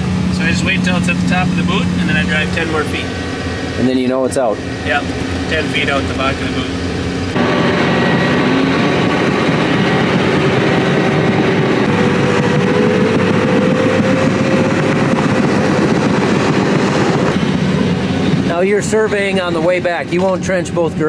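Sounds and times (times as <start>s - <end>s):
heavy diesel engine under load: 0.0s - 21.0s.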